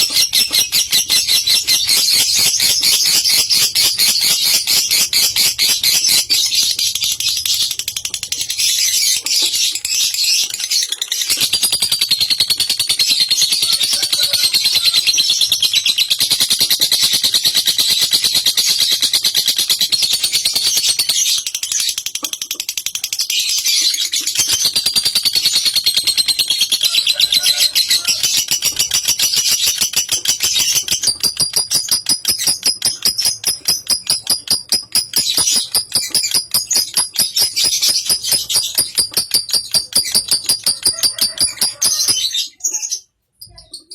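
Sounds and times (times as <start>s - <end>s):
bird chattering trill: 0.0s - 43.9s.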